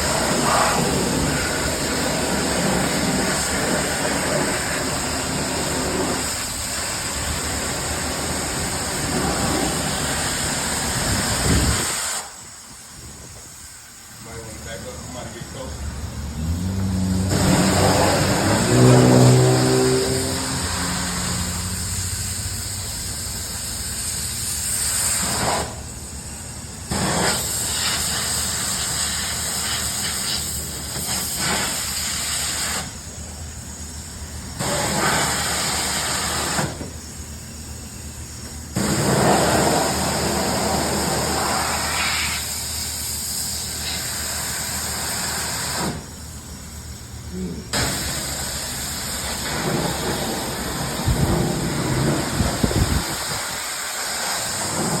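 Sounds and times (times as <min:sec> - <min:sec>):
loud hiss: 0:00.0 - 0:55.0.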